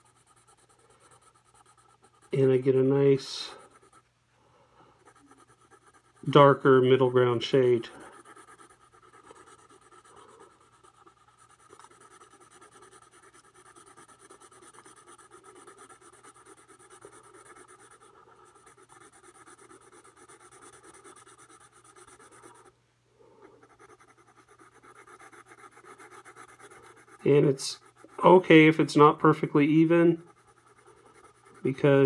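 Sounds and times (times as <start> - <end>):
pencil scratching on paper: 0.0 - 4.1, 5.0 - 22.7, 23.4 - 32.0.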